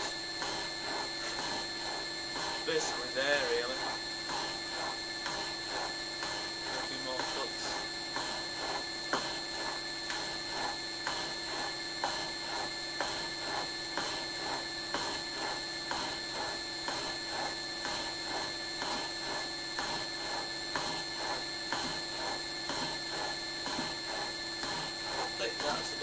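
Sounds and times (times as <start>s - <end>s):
motor whine: 0.0s - 26.0s.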